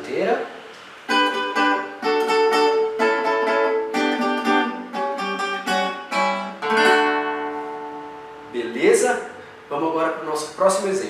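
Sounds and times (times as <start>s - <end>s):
acoustic guitar plucked notes: 0.8s - 10.4s.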